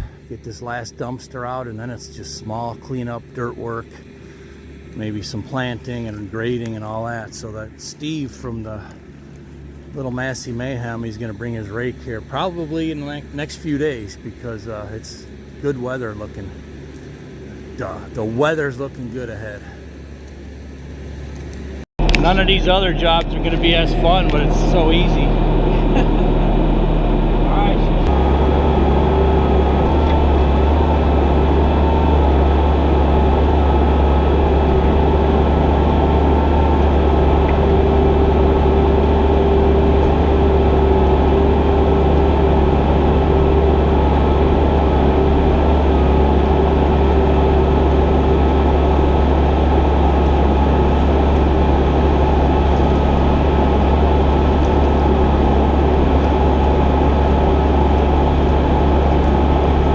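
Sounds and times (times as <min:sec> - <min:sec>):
heavy machine diesel engine running: 0:00.0 - 0:59.9
steady whine: 0:00.0 - 0:59.9.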